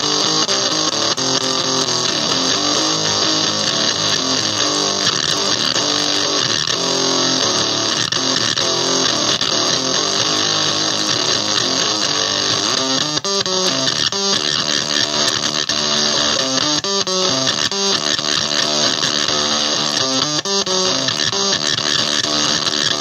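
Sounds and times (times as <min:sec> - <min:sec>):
distorted electric guitar riffing: 0:00.0 - 0:23.0.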